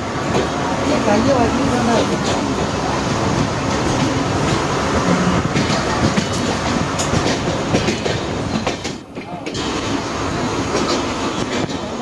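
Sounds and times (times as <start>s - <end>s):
train wheels rumbling on rail: 0.0s - 12.0s
wheels clacking over rail joints: 0.2s - 12.0s.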